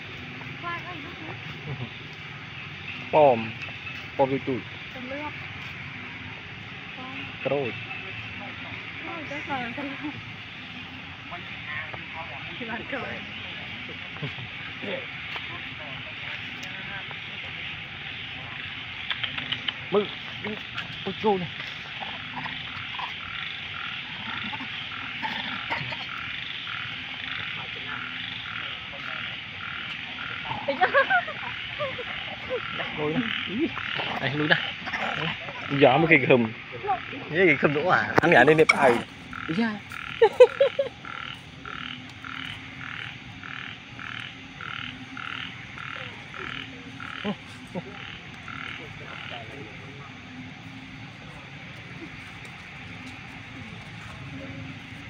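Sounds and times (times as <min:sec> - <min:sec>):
frogs croaking: 0:00.0 - 0:55.0
steady high hiss: 0:00.0 - 0:55.0.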